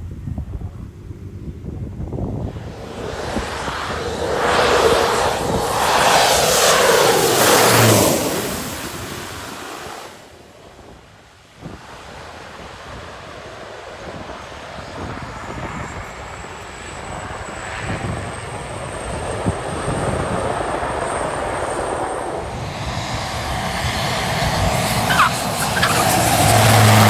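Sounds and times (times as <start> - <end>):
airplane engine noise: 0.0 - 27.0.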